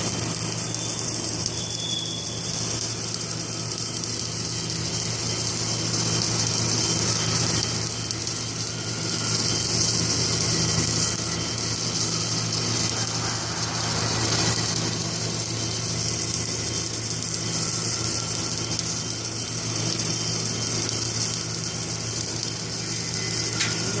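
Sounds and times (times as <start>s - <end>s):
welding machine humming and hissing: 0.0s - 24.0s.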